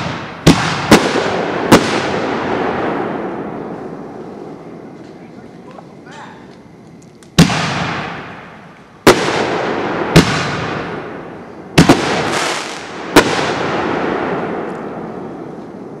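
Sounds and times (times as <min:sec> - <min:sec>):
firework bangs with hiss: 0:00.0 - 0:04.9, 0:07.2 - 0:16.0.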